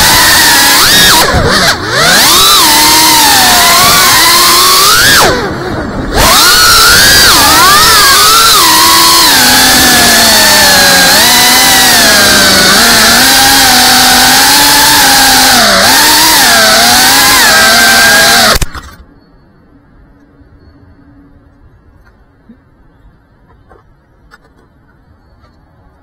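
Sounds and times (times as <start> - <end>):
drone motors buzzing whine: 0.0 - 24.2.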